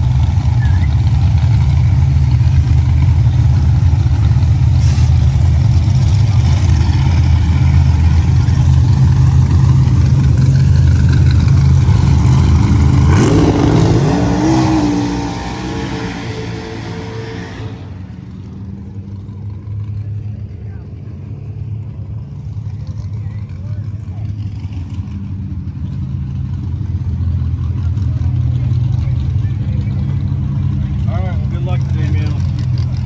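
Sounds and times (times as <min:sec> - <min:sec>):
large engine rumbling: 0:00.0 - 0:33.0.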